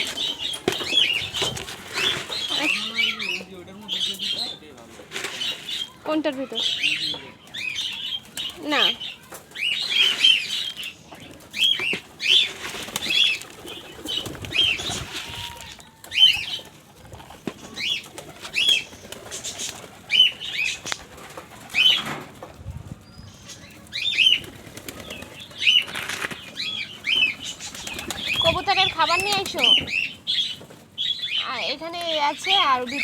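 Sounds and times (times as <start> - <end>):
pigeons flapping wings: 0.0 - 3.2, 7.4 - 30.9.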